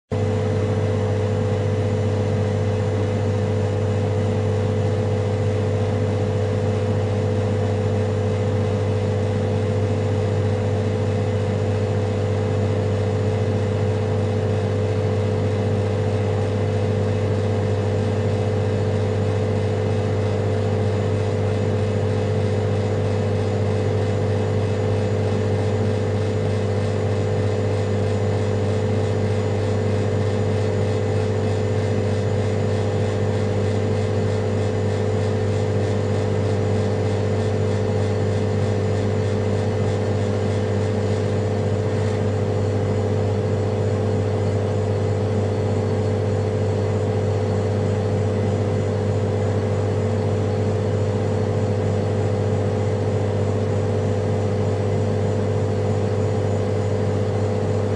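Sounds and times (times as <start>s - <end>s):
vending machine humming: 2.6s - 57.9s.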